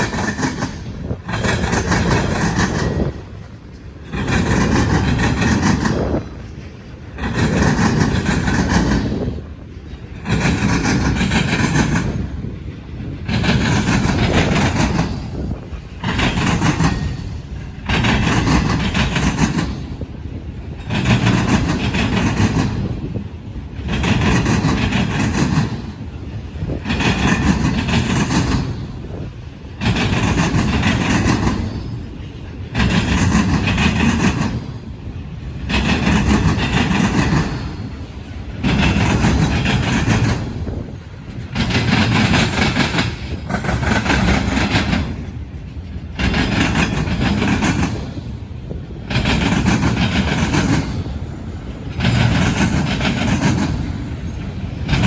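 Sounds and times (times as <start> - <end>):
train cars rolling: 0.0 - 55.0
train wheels clattering over crossings: 0.0 - 55.0.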